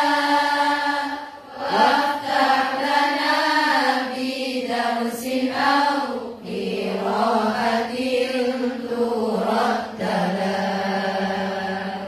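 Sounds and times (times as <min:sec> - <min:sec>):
women chanting in unison: 0:00.0 - 0:12.0.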